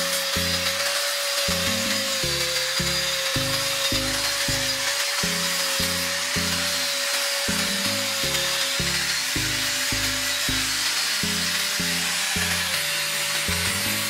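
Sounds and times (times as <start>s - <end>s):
angle grinder whining: 0.0s - 14.0s
music with bass pulse: 0.0s - 14.0s
sanding pad rasping on steel: 0.0s - 14.0s.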